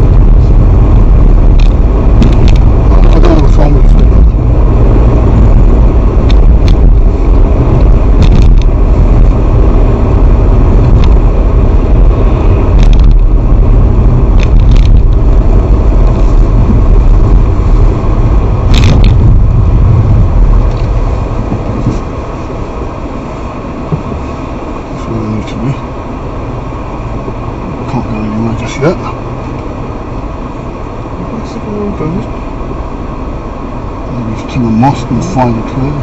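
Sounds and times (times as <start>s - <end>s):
car engine and road rumble: 0.0s - 36.0s.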